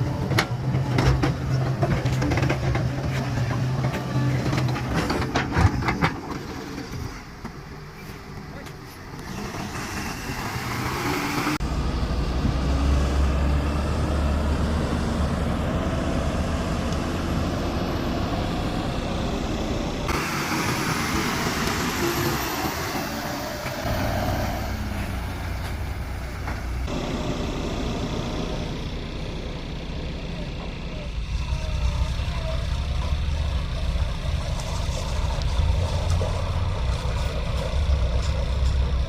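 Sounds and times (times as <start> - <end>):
excavator diesel engine rumbling: 0.0 - 39.0.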